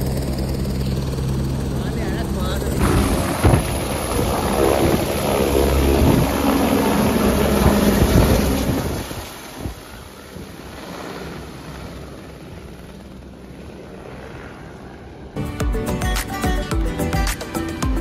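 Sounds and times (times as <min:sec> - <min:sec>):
helicopter engine and rotor: 0:00.0 - 0:15.9.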